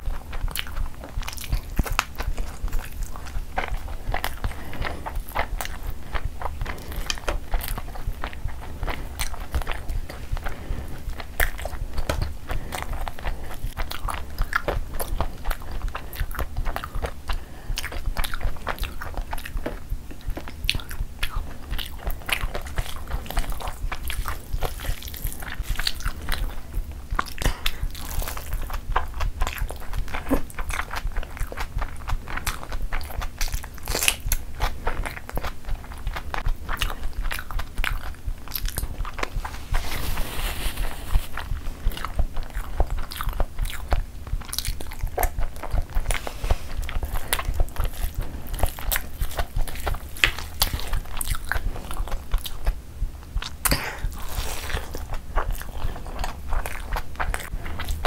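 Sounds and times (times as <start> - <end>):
wet chewing and mouth smacks: 0.0 - 58.0.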